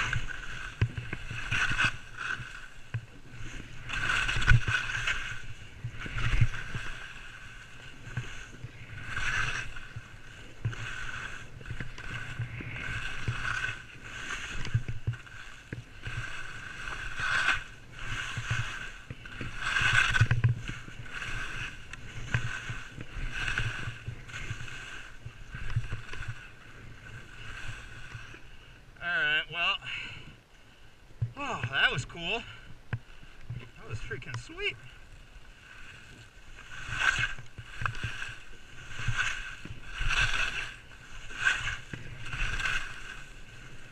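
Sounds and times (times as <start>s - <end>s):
skis scraping over snow: 0.0s - 30.3s, 31.2s - 43.9s.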